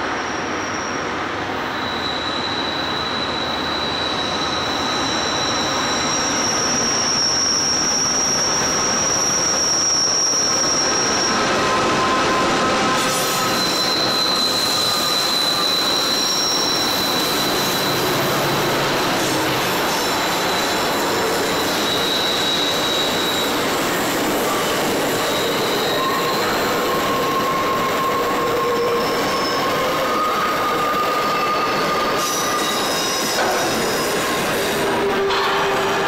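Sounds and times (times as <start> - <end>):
wheel flanges squealing: 1.7 - 36.0
freight train rumbling: 3.1 - 36.0.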